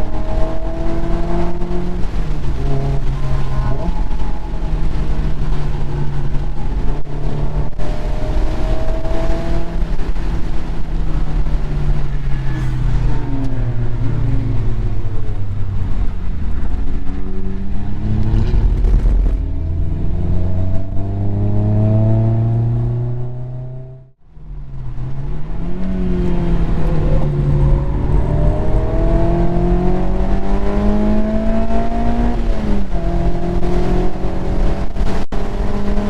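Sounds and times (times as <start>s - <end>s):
car engine accelerating: 0.0s - 36.0s
wind and road noise: 0.0s - 36.0s.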